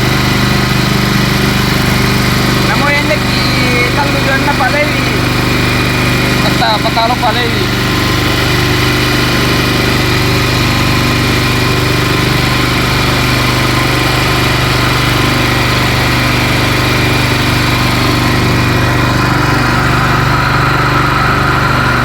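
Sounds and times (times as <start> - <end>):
small engine running steadily: 0.0 - 22.0.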